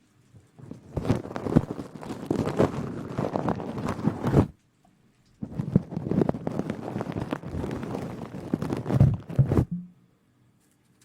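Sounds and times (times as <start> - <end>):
crackly rustling on microphone: 0.0 - 9.8.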